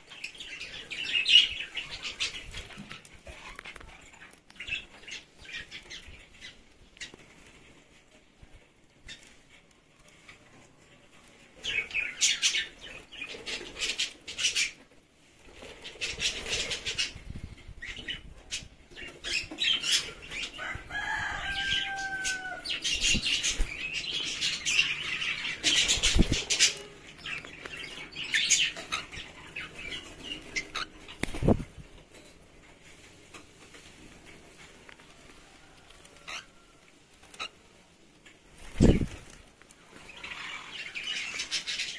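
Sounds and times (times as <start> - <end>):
birds chattering: 0.0 - 7.7, 8.9 - 32.4, 37.2 - 38.0, 38.7 - 41.9.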